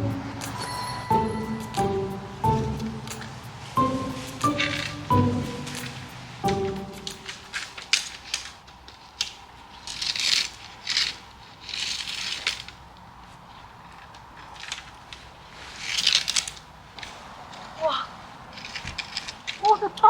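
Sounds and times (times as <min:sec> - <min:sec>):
tent poles clicking and knocking: 0:01.8 - 0:13.0, 0:13.8 - 0:17.9, 0:18.5 - 0:20.0.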